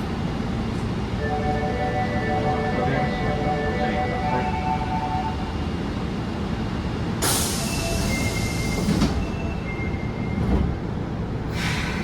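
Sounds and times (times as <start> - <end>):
subway train wheels rumbling on rail: 0.0 - 12.0.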